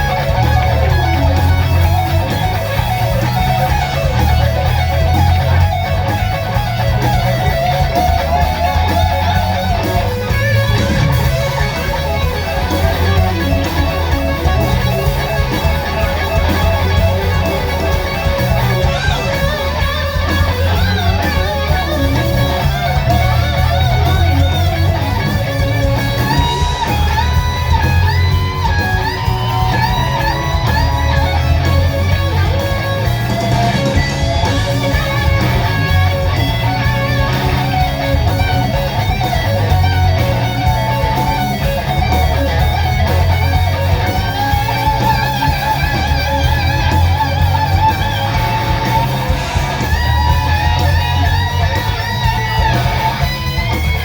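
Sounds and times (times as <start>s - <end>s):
bass: 0.0s - 54.0s
drums: 0.0s - 54.0s
electric guitar solo: 0.0s - 54.0s.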